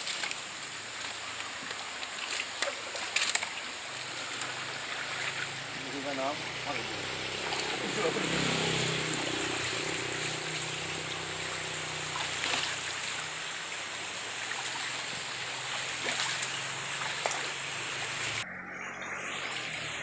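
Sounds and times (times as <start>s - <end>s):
river water rushing: 0.0s - 18.4s.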